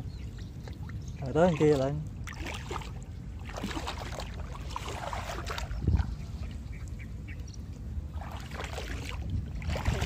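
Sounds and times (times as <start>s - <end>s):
steady low rumble: 0.0s - 10.0s
water sloshing and splashing: 0.0s - 10.0s.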